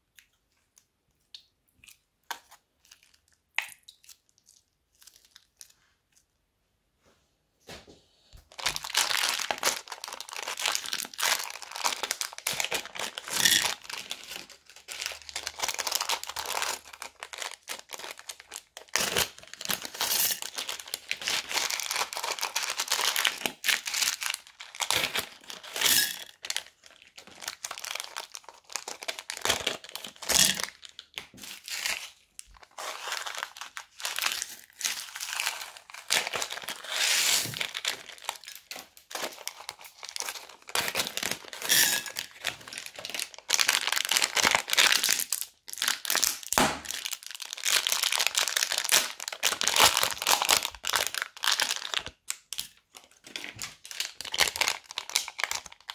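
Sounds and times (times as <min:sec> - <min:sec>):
plastic bags crinkling: 0:08.4 - 0:55.9.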